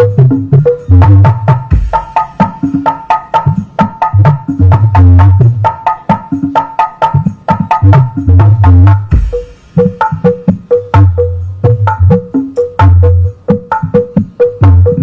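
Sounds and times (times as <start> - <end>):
loud music with bass and percussion: 0.0 - 15.0.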